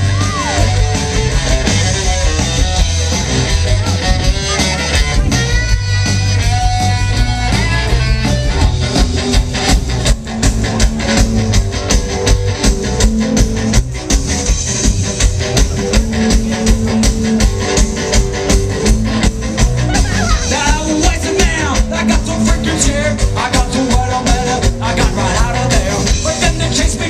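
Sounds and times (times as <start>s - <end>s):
live rock band playing: 0.0s - 27.0s
steady drum beat: 0.0s - 27.0s.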